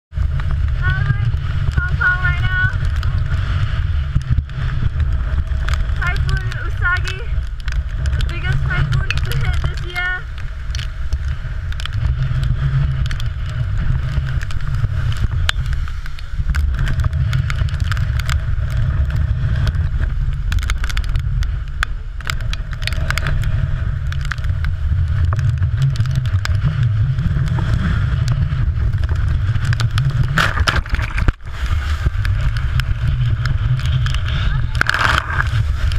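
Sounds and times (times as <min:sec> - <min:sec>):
rain ticking on camera: 0:00.1 - 0:35.9
strong wind buffeting microphone: 0:00.1 - 0:35.9.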